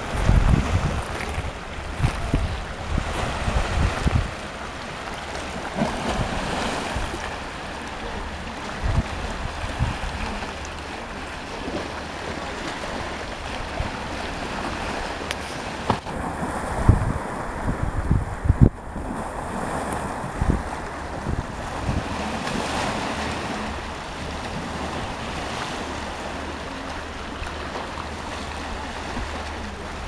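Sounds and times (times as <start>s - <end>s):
waves breaking: 0.0s - 30.0s
wind buffeting microphone: 0.0s - 30.0s.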